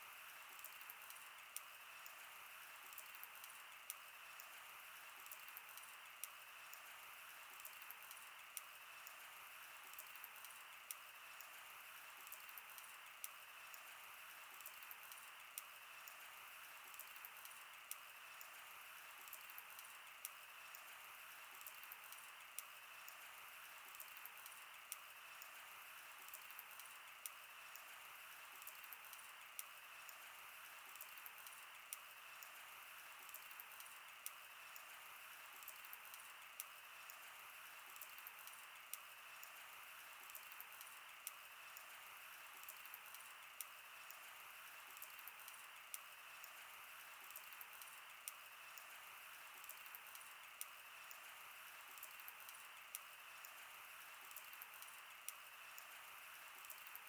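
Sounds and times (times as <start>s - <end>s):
soft steady hiss: 0.0s - 57.0s.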